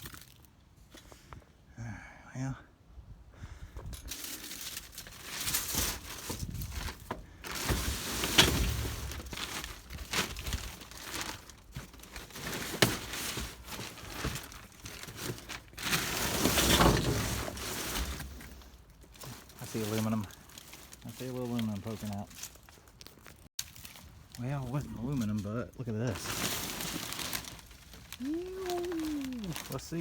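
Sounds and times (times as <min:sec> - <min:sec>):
trash bags crinkling: 0:04.0 - 0:30.0.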